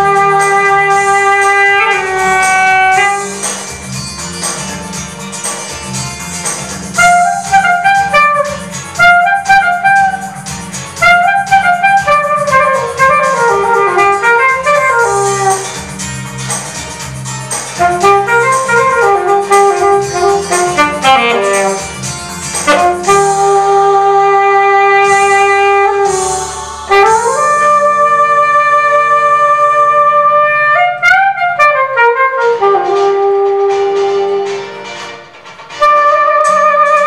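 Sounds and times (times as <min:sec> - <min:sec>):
alto saxophone solo: 0:00.0 - 0:03.8, 0:06.9 - 0:16.4, 0:17.7 - 0:34.8, 0:35.8 - 0:37.0
low musical accompaniment: 0:00.0 - 0:37.0.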